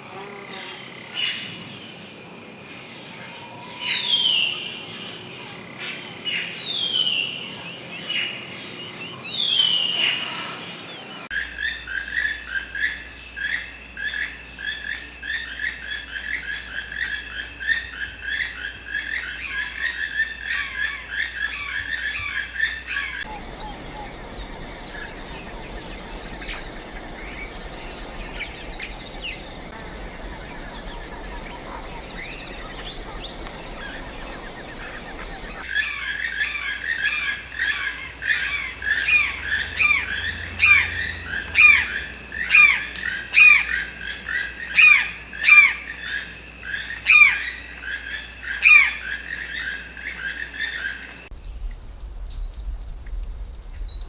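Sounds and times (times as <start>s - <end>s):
forest hiss: 0.0s - 54.0s
bird chirping: 5.9s - 51.8s.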